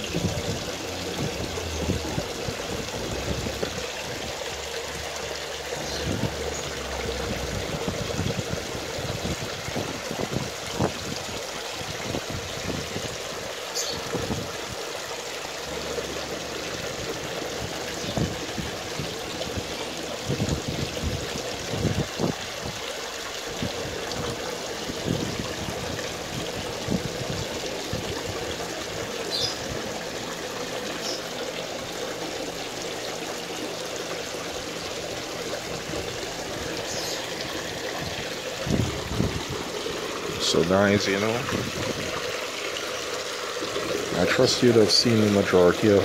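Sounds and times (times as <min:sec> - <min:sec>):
water trickling into a pond: 0:00.0 - 0:46.0.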